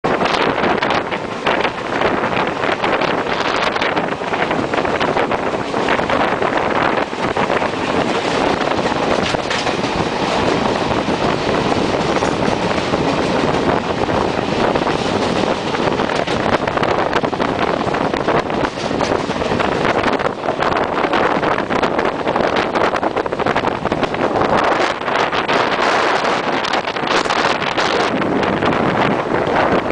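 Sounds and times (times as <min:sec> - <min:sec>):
train wheel and track noise: 0:00.0 - 0:29.9
wind buffeting microphone: 0:00.0 - 0:29.9.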